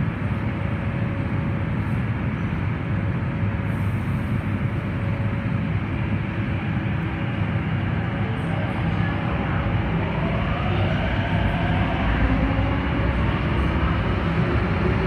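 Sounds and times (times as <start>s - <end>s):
moving train low noise: 0.0s - 15.0s.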